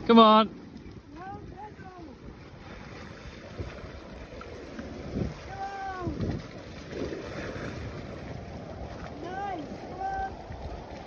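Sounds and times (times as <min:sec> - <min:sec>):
lapping water: 0:00.0 - 0:11.0
wind buffeting microphone: 0:00.0 - 0:11.0.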